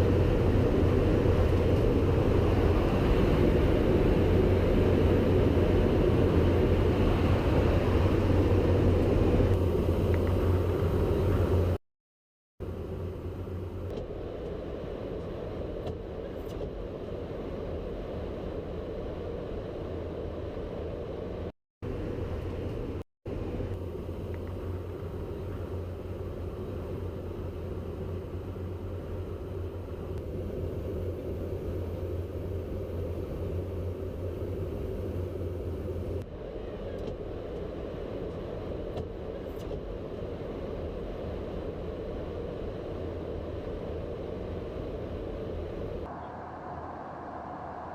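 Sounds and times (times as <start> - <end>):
aircraft engines rumbling: 0.0 - 11.8, 12.6 - 47.9.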